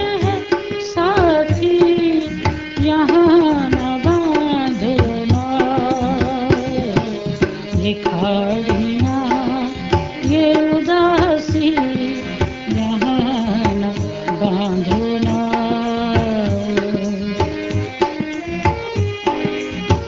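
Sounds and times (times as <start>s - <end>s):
tabla rhythm: 0.0s - 20.0s.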